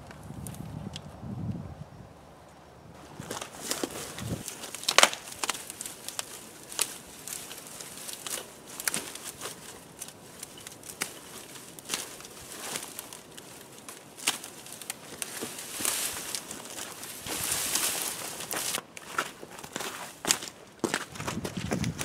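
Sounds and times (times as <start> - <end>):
twigs snapping: 0.0 - 1.2, 3.0 - 22.0
dry brush stems rustling: 3.0 - 22.0.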